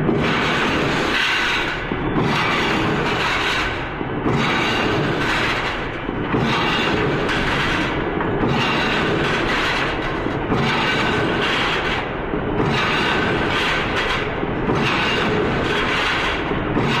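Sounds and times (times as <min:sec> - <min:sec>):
industrial machinery running: 0:00.0 - 0:17.0.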